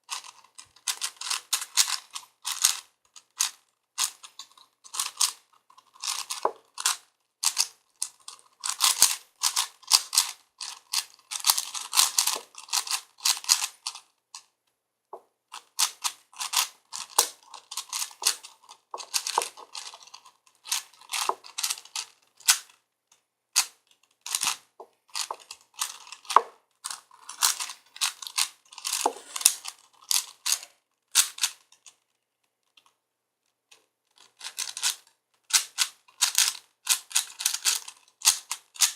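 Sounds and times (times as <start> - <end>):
puzzle cube plastic clacks: 0.1 - 14.5, 15.5 - 33.0, 33.7 - 38.9.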